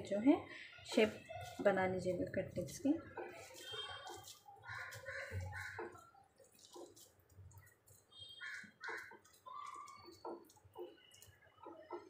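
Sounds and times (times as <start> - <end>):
hands squishing moist mixture: 0.9 - 12.0.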